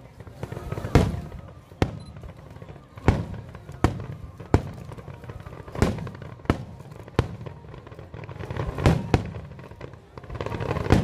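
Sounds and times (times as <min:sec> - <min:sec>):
fireworks bursting with bangs: 0:00.0 - 0:11.0.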